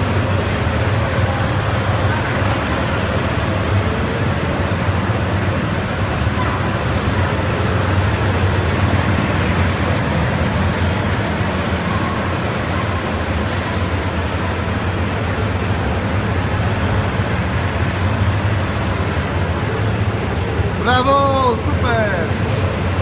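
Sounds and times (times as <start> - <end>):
go-kart engines: 0.0 - 23.0.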